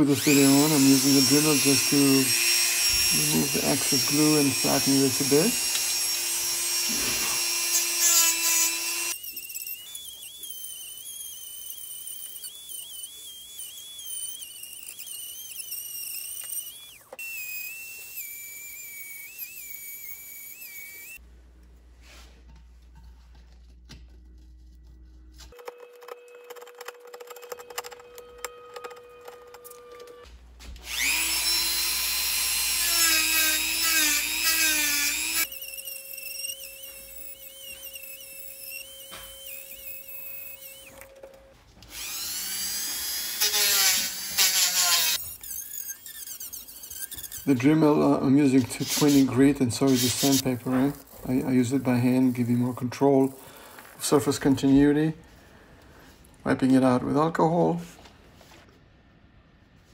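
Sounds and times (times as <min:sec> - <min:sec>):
rotary tool grinding: 0:00.0 - 0:21.2, 0:24.8 - 0:54.7.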